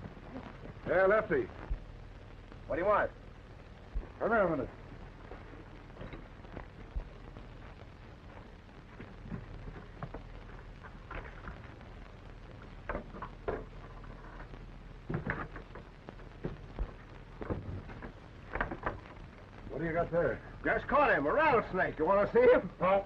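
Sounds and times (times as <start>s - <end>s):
old film soundtrack hiss and crackle: 0.0s - 23.0s.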